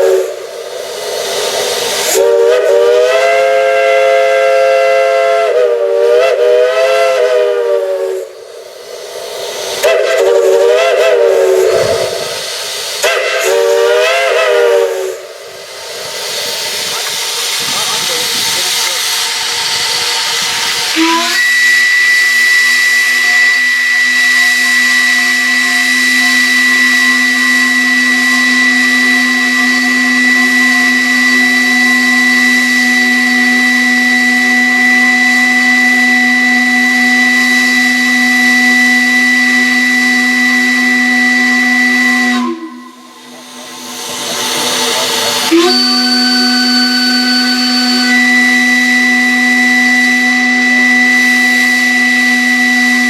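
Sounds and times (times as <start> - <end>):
steam whistle blast: 0.0 - 0.5, 1.7 - 8.5, 9.7 - 15.4, 18.0 - 53.0
steam hissing: 0.0 - 53.0.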